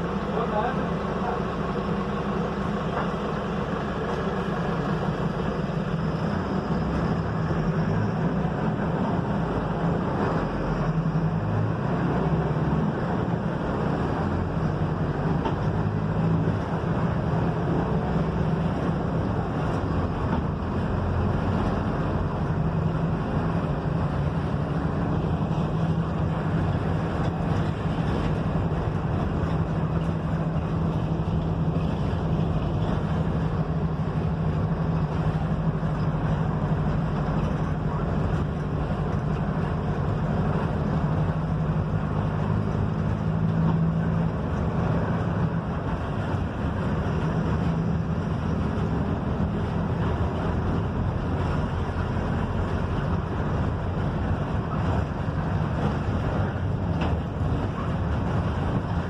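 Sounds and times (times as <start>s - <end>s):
bus diesel engine humming: 0.0s - 59.0s
road and body noise: 0.0s - 59.0s.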